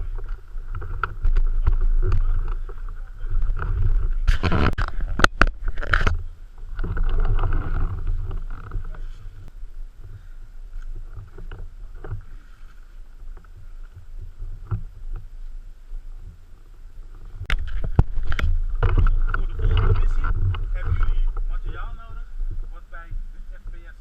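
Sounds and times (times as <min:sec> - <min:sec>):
low rumbling noise: 0:00.0 - 0:24.0.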